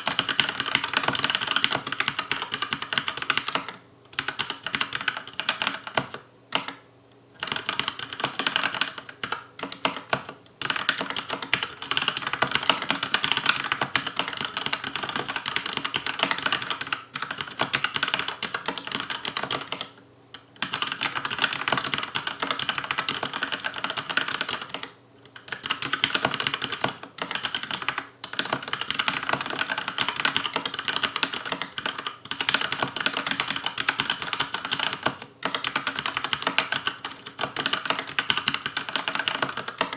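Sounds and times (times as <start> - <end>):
mechanical keyboard typing: 0.0 - 6.8, 7.4 - 20.0, 20.6 - 39.9.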